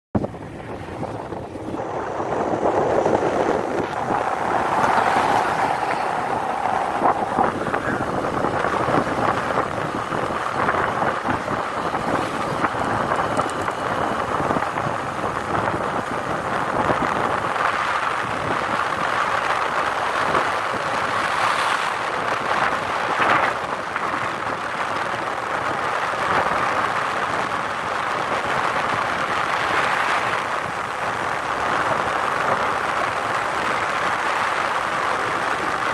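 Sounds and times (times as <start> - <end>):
motorbike running noise: 0.2 - 35.9
wind buffeting microphone: 0.2 - 35.9.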